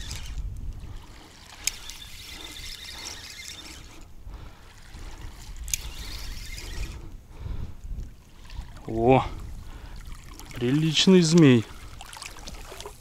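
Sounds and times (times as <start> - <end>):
water splashing and swishing: 0.0 - 13.0
wind rumble on microphone: 0.0 - 13.0.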